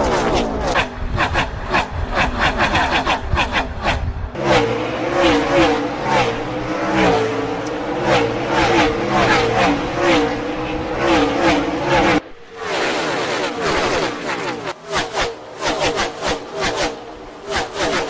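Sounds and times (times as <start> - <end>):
race car engines at speed: 0.0 - 18.0.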